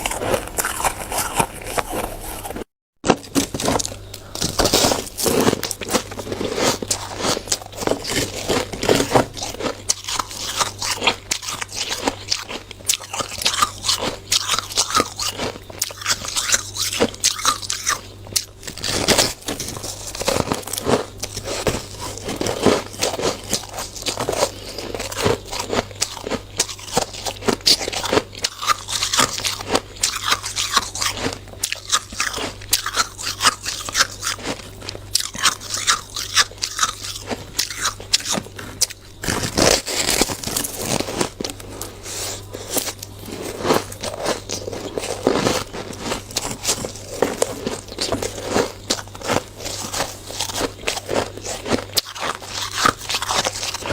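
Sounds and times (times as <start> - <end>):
person crunching shaved ice: 0.0 - 53.9.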